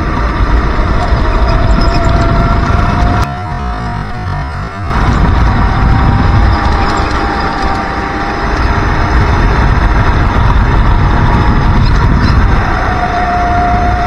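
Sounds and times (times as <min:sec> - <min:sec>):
kart engine running at speed: 0:00.0 - 0:14.0.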